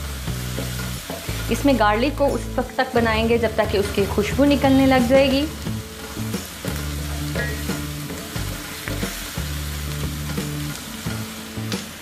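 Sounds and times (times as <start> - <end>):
onion and garlic sizzling in oil: 0.0 - 12.0.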